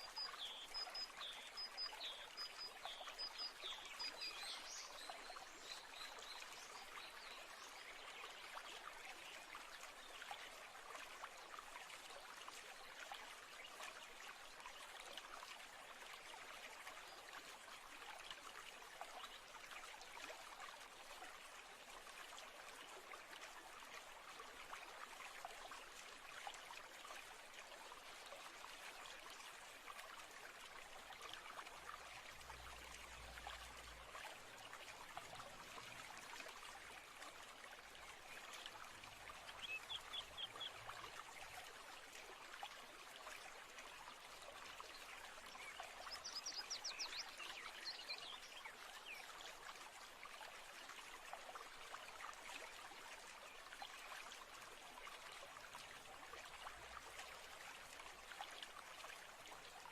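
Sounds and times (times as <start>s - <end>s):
stream trickling and burbling: 0.0s - 59.9s.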